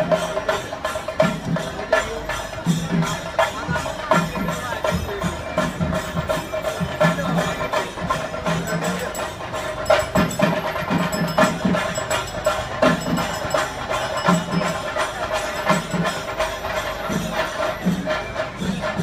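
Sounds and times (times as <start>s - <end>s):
percussion-led music: 0.0s - 19.0s.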